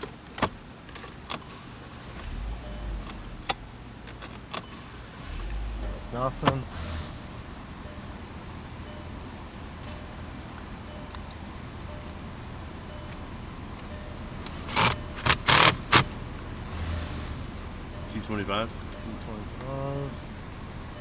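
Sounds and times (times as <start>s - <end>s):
faint regular ticking: 0.4s - 21.0s.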